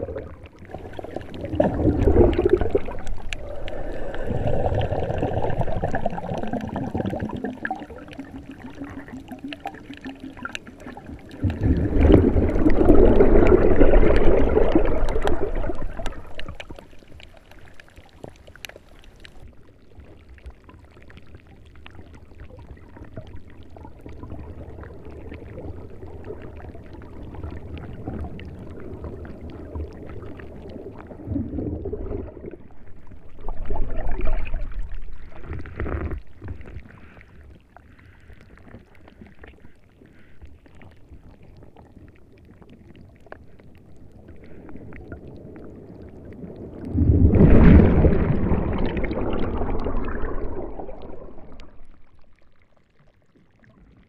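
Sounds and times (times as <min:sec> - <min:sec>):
underwater rumbling wash: 0:00.0 - 0:18.4, 0:21.4 - 0:39.4, 0:40.9 - 0:52.7
water bubbling and gurgling: 0:00.0 - 0:54.0.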